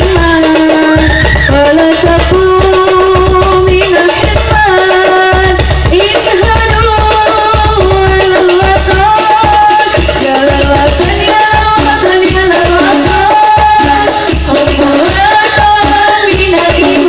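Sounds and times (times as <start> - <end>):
frame drums beating: 0.0 - 17.0.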